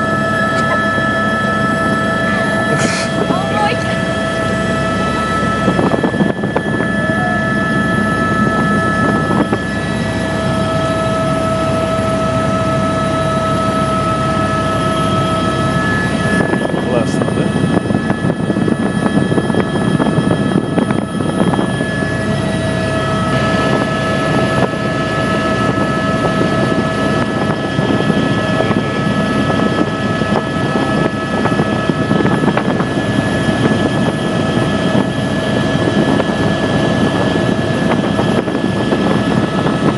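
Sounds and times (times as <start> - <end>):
helicopter engine and rotor noise: 0.0 - 39.9
high whining tones: 0.0 - 39.9.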